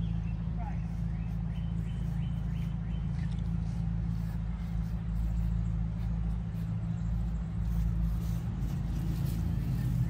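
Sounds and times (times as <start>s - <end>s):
motor low drone: 0.0s - 10.0s.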